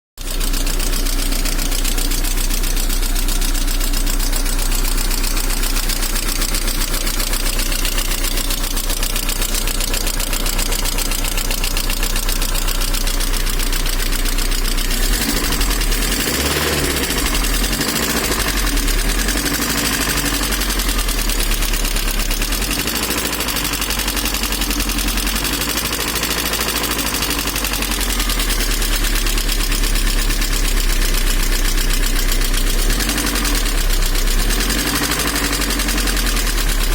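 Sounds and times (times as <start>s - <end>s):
car engine idling: 0.2s - 36.9s
rapid engine knock: 0.2s - 36.9s.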